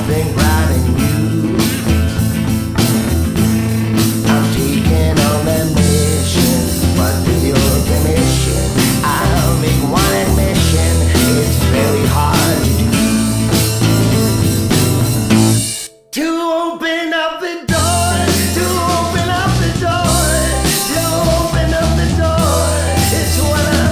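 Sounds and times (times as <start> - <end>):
steady drum beat: 0.0 - 15.9, 17.7 - 23.9
guitar lead bending notes: 0.0 - 16.2, 17.7 - 23.9.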